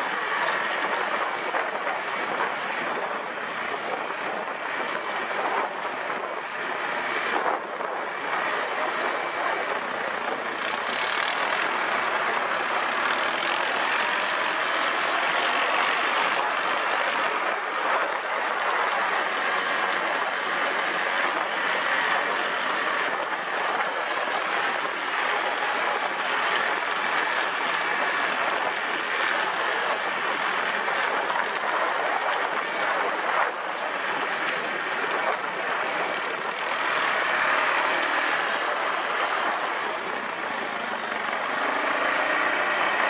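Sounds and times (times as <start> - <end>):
atv engine running: 0.0 - 43.0
wind on microphone: 0.0 - 43.0.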